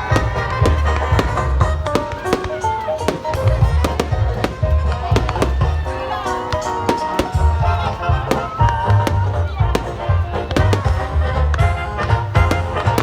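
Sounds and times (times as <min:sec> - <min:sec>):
music with pulsing bass: 0:00.0 - 0:02.8, 0:03.4 - 0:13.0
fireworks bangs: 0:00.0 - 0:13.0.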